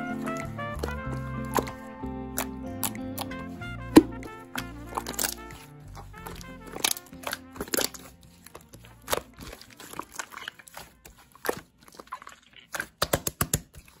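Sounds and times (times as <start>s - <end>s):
slime squeezed clicking and popping: 0.2s - 1.8s, 2.4s - 5.6s, 6.2s - 8.1s, 9.0s - 14.0s.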